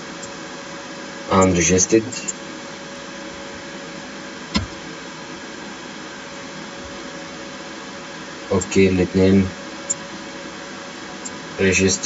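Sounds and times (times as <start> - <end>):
faint hum: 0.0 - 12.0
recording hiss: 0.0 - 12.0.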